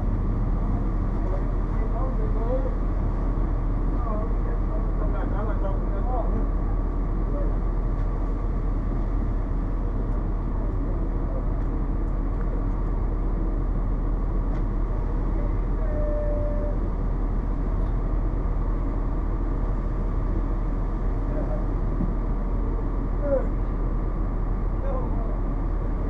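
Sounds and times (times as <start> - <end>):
bus diesel engine idling: 0.0 - 26.0.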